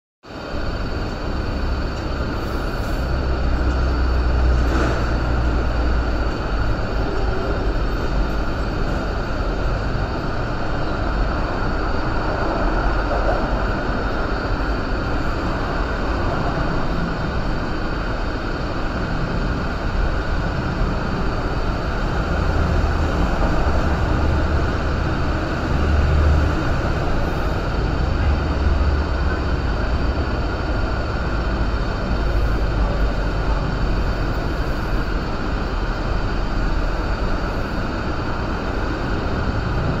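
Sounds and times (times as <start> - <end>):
train rumbling past: 0.3 - 40.0.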